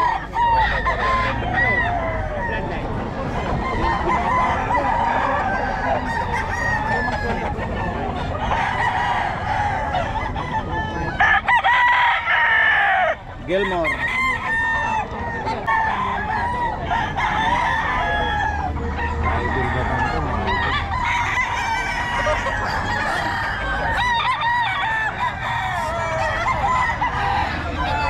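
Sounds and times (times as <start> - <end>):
roosters crowing: 0.0 - 28.0.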